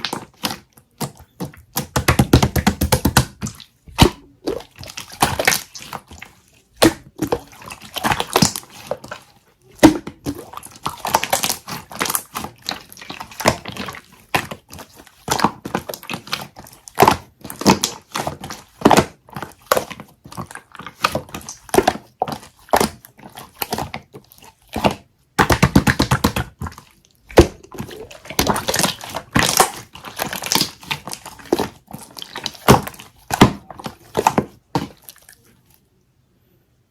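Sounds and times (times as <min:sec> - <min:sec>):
jelly slime squeezed by hand: 0:00.0 - 0:35.8.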